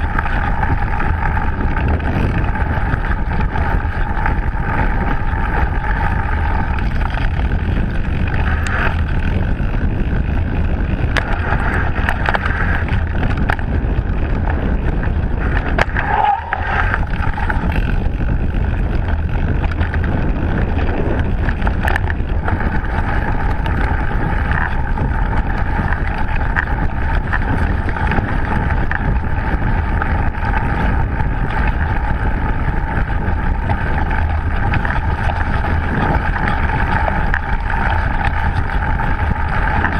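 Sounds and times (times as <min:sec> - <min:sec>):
tyres rumbling on dirt: 0:00.0 - 0:39.9
wind rush on microphone: 0:00.0 - 0:39.9.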